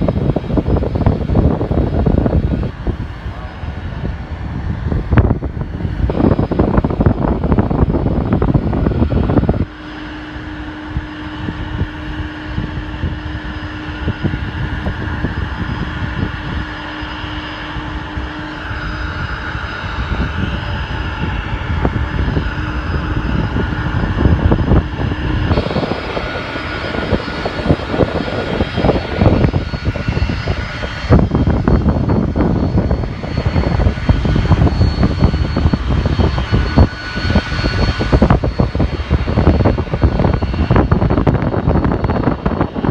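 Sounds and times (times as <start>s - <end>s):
jet engines whining: 0.0s - 42.9s
wind buffeting microphone: 0.0s - 42.9s.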